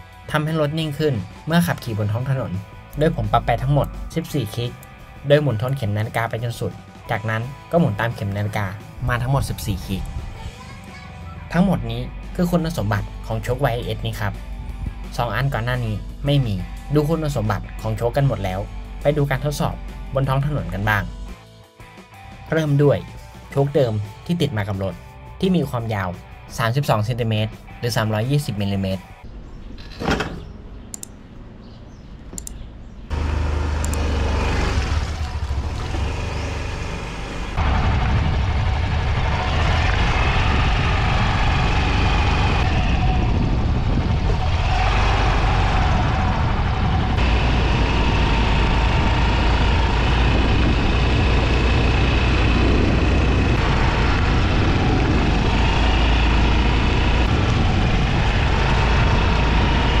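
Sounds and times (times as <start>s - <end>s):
scooter engine and road noise: 0.0s - 21.3s, 29.1s - 60.0s.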